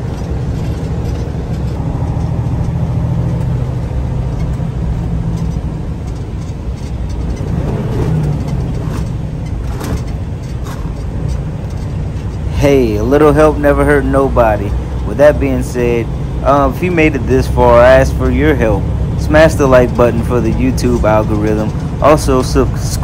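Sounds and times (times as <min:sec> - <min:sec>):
diesel engine rumble: 0:00.0 - 0:23.0
road noise: 0:00.0 - 0:23.0.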